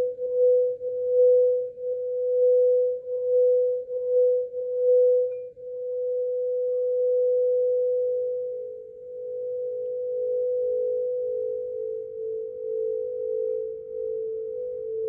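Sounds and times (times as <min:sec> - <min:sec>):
second lower bowl tone: 0:00.0 - 0:15.0
singing bowl tone: 0:00.0 - 0:15.0.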